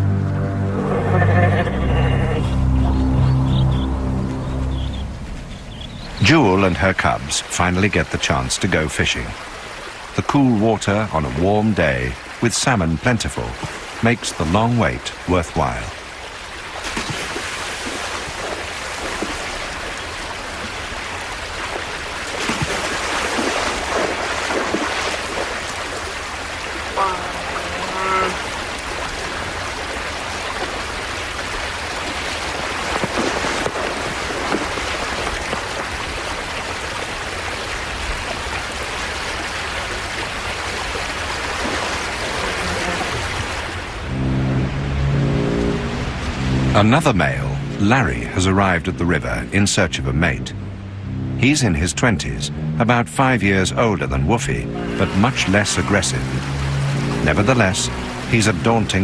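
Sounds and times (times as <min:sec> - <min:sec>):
river water rushing: 0:00.0 - 0:52.7, 0:53.5 - 0:59.0.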